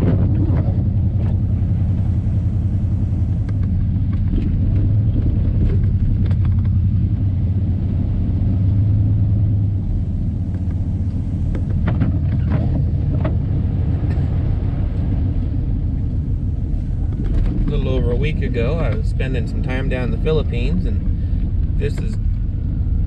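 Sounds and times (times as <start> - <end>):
engine and road rumble inside cab: 0.0 - 23.0.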